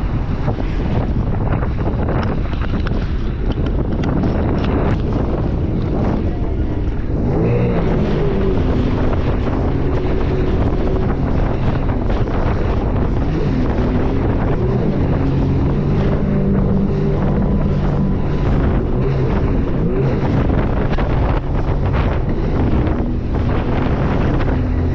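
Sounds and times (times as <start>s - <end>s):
watercraft engine running: 0.0s - 24.9s
wind on microphone: 0.0s - 24.9s.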